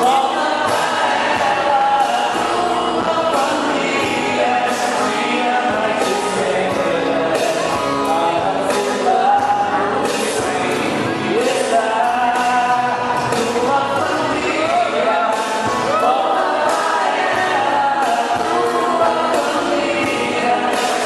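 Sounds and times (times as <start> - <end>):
song with singing: 0.0 - 21.0.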